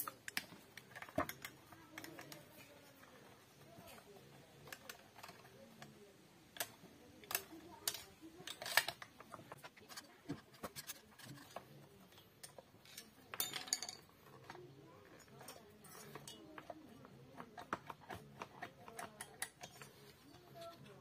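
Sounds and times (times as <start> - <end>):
screwdriver clicking on metal parts: 0.0 - 21.0.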